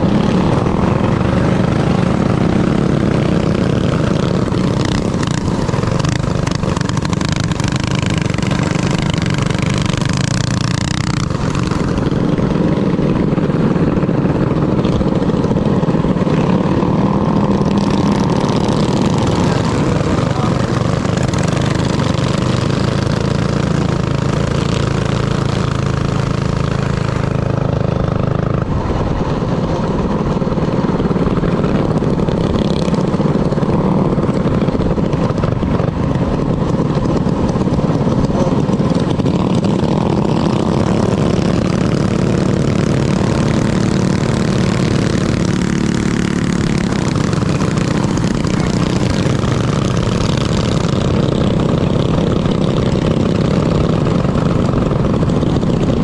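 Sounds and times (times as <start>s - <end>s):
minibike engine running: 0.0s - 56.0s.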